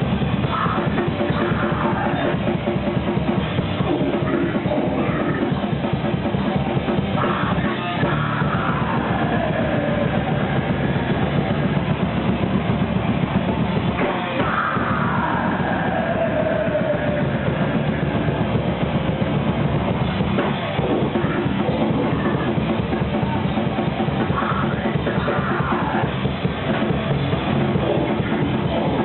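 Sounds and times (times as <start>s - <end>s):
heavy metal band playing live: 0.0s - 29.0s.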